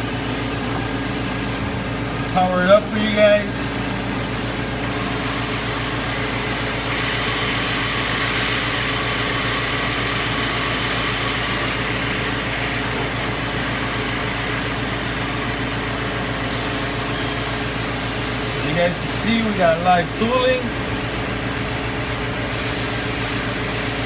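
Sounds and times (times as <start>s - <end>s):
lathe machine hum: 0.0s - 24.0s.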